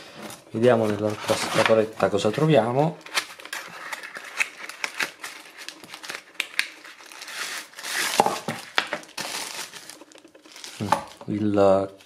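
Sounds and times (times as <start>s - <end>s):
plastic bag crinkling: 0.5s - 11.4s.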